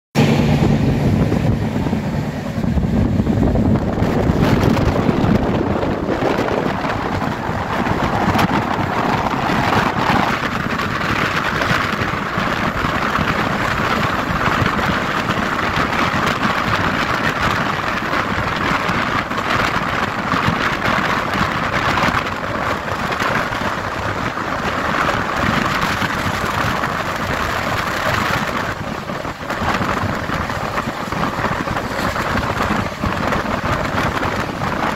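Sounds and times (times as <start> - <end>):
train wind and wheel noise: 0.2 - 34.9
wheels clicking on rails: 1.4 - 34.9.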